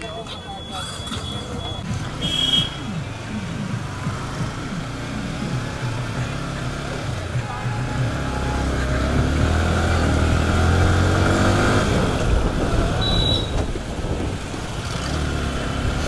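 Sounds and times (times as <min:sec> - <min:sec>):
motorcycle engine accelerating: 0:01.9 - 0:16.0.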